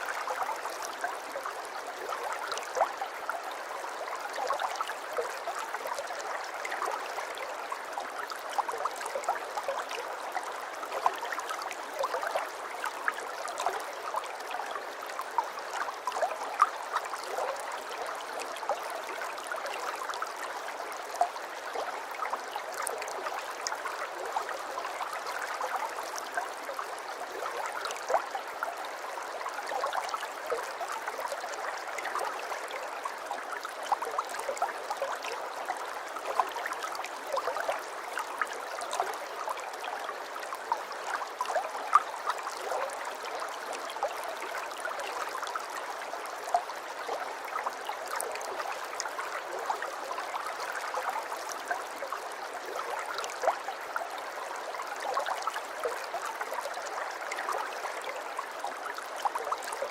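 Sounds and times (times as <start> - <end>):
aquarium water trickling and bubbling: 0.0 - 59.9.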